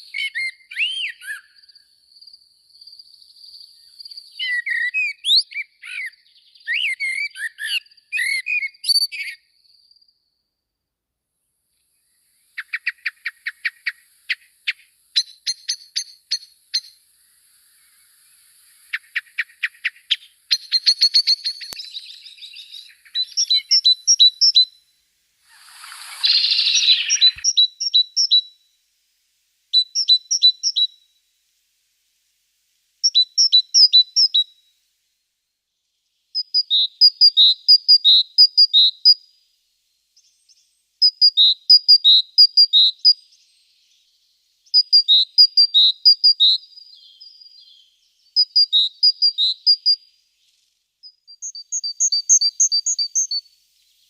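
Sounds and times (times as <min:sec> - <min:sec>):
songbird singing: 0:00.0 - 0:10.4, 0:11.8 - 0:34.9, 0:35.5 - 0:54.0.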